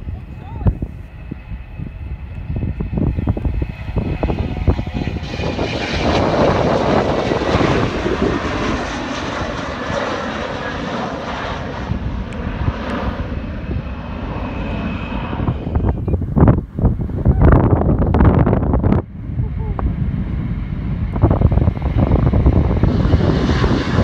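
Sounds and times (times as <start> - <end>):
jet engine roar: 0.0 - 24.0
thin jet engine whine: 0.0 - 24.0.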